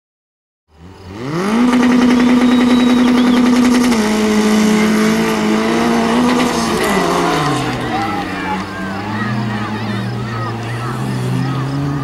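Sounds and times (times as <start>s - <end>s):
race car engine revving: 0.7s - 12.0s.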